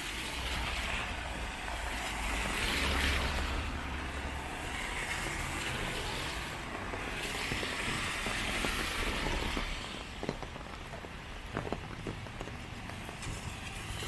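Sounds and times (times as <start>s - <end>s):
steady rain: 0.0s - 14.0s
tyres hissing on wet road: 0.0s - 14.0s.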